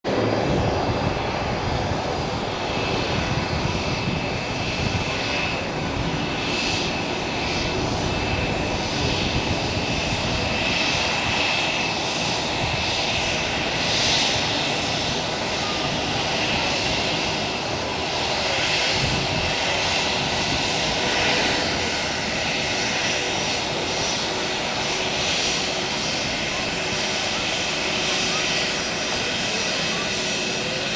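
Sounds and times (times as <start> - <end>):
jet engines rushing: 0.0 - 30.9
high engine whine: 0.1 - 30.9.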